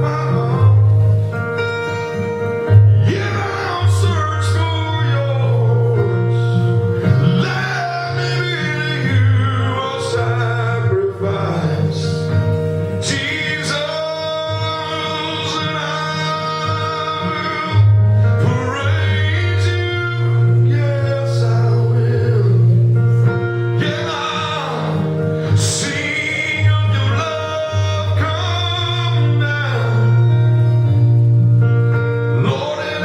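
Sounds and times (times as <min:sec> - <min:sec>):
man singing: 0:00.0 - 0:31.1, 0:32.2 - 0:33.0
backing track with bass notes: 0:00.0 - 0:33.0.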